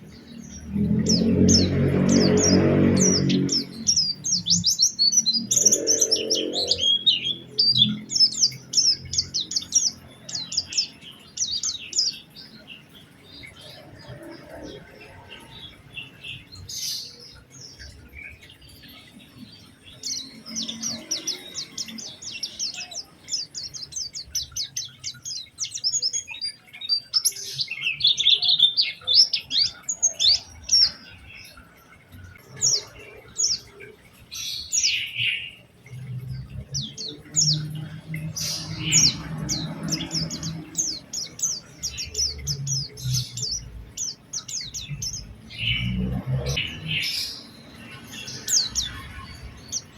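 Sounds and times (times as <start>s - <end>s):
bird chattering song: 0.0s - 49.9s.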